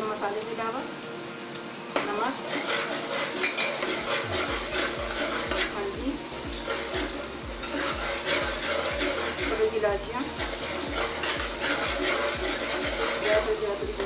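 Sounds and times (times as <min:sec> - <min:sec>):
masala sizzling in oil: 0:00.0 - 0:14.0
steel spoon scraping a pot: 0:02.0 - 0:14.0.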